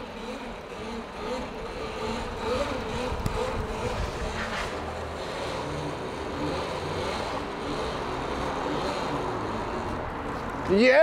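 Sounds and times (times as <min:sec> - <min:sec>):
electric motorbike motor running: 0:00.0 - 0:10.7.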